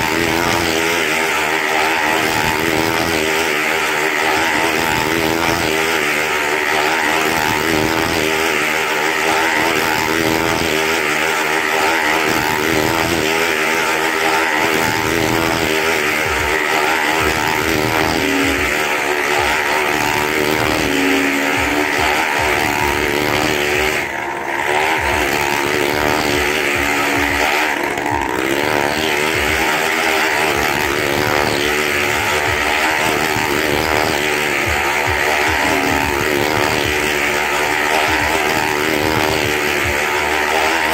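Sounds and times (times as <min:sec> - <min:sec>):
motorcycle engine running hard: 0:00.0 - 0:40.9.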